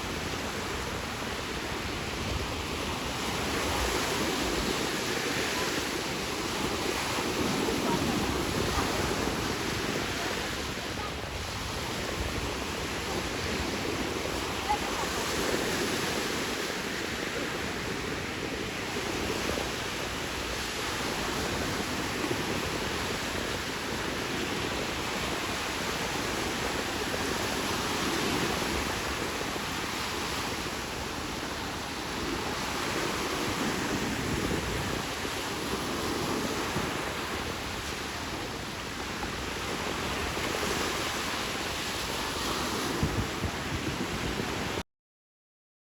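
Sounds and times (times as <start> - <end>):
surf washing onto beach: 0.0 - 44.8.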